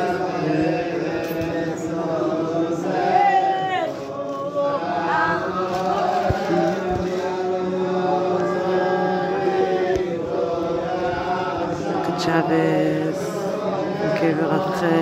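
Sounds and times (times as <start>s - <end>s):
voices chanting a prayer melody: 0.0s - 15.0s.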